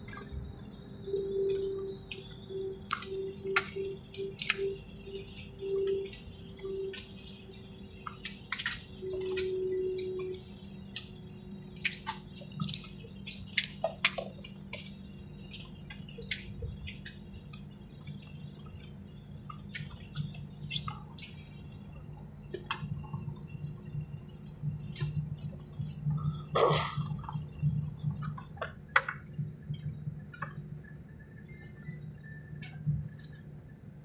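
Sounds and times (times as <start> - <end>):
airliner cabin hum: 0.0 - 33.8
faint wavering tone: 0.0 - 34.0.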